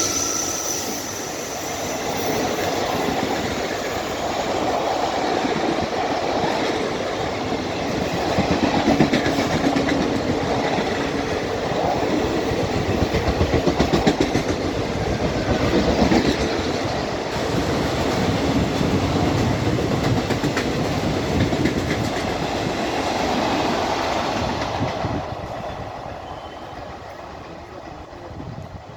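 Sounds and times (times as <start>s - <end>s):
train passing at speed: 0.0s - 28.9s.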